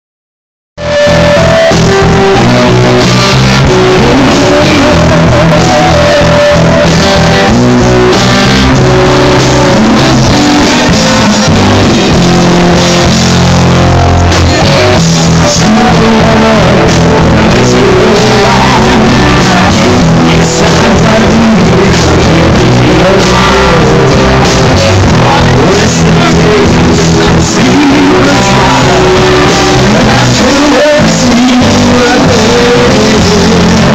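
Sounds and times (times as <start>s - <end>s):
live rock band playing: 0.8s - 33.9s.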